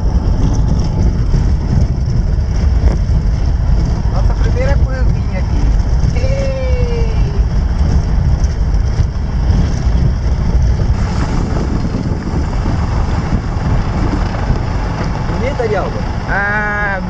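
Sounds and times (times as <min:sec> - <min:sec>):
tyres and engine rumbling: 0:00.0 - 0:17.0
wind rushing over microphone: 0:00.0 - 0:17.0.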